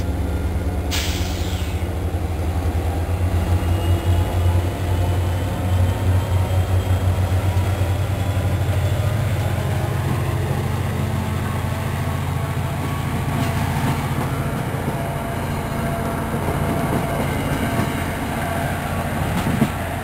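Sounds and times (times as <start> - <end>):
diesel locomotive engine rumble: 0.0 - 20.0
passenger coaches rolling by: 0.0 - 20.0.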